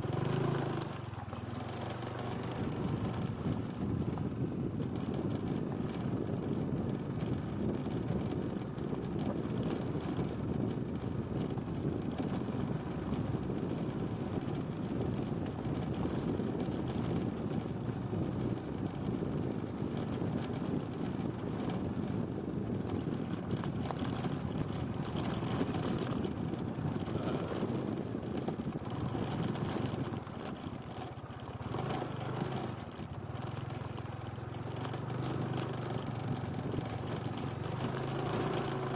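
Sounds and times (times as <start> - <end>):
low engine hum: 0.0 - 38.9
moving vehicle rumble: 0.0 - 38.9.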